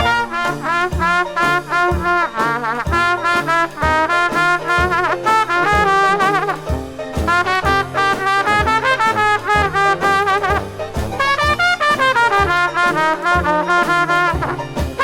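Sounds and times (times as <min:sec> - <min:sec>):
dixieland jazz band playing: 0:00.0 - 0:15.0
steady bass beat: 0:00.0 - 0:15.0
trombone: 0:00.0 - 0:15.0
trumpet: 0:00.0 - 0:15.0.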